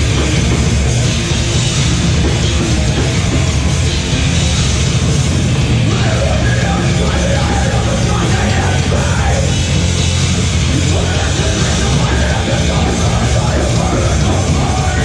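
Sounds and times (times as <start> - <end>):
metal band playing live: 0.0 - 15.0.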